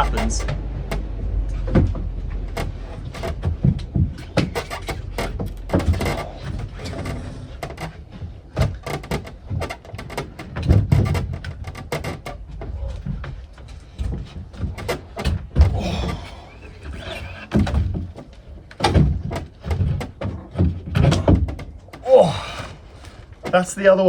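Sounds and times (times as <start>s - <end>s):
wood knocking and clunking: 0.0s - 23.8s
heavy wooden thuds: 0.0s - 23.9s.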